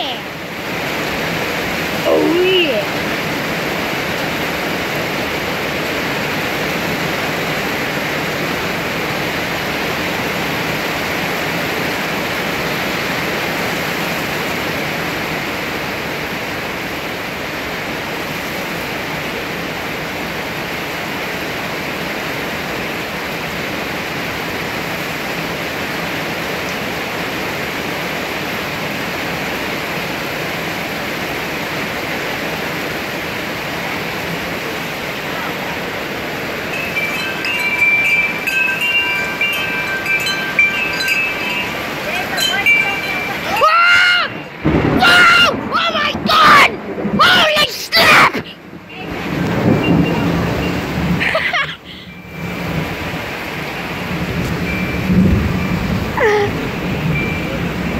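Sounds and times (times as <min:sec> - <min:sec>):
heavy rain on grass and trees: 0:00.0 - 0:57.9.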